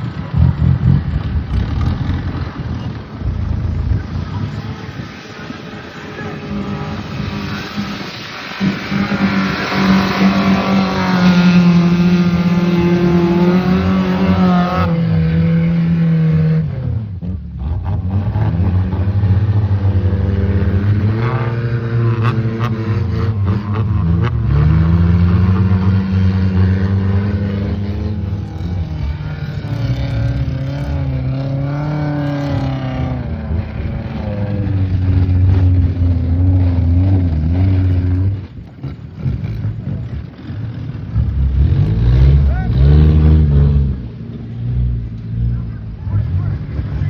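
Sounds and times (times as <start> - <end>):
vehicle engine revving hard: 0.0 - 45.7.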